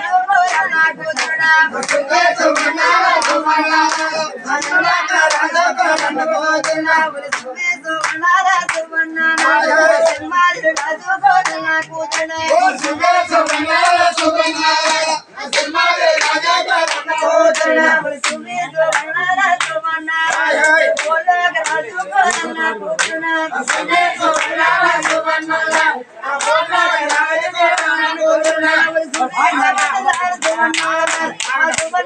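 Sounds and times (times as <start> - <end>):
men singing a folk chant: 0.0 - 32.0
rhythmic hand clapping: 0.0 - 32.0.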